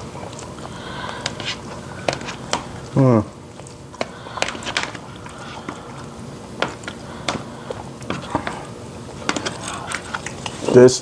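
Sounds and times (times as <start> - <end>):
chewing: 0.0 - 10.6.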